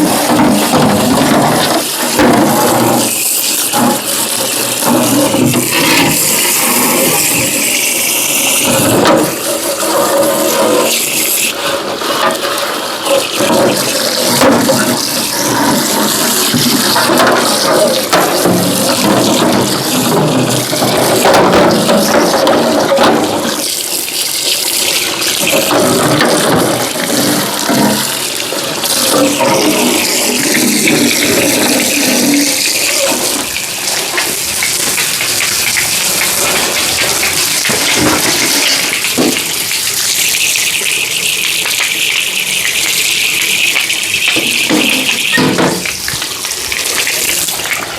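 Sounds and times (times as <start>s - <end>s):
running water splashing: 0.0s - 47.9s.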